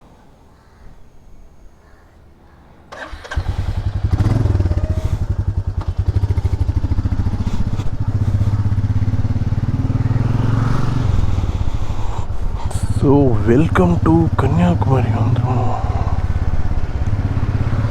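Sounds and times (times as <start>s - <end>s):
motorcycle engine running: 3.1s - 17.9s.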